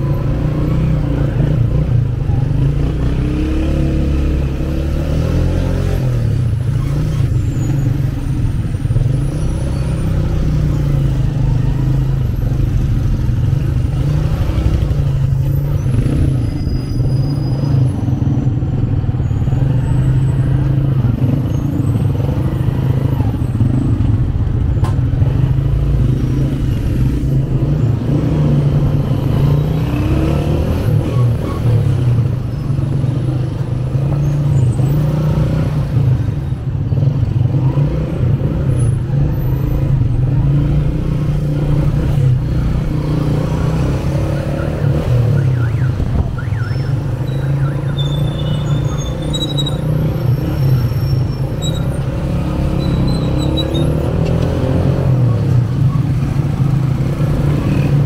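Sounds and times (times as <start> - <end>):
car traffic: 0.0 - 58.0.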